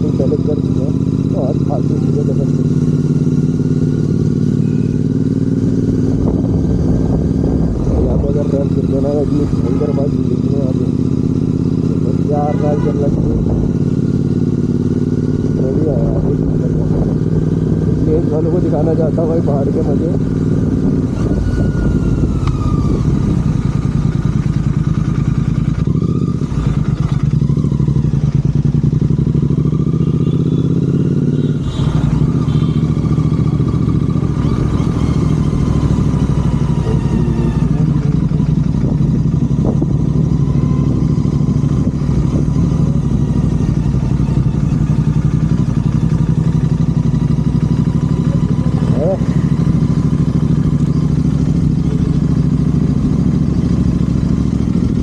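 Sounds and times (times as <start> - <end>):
motorcycle engine exhaust note: 0.0 - 55.0.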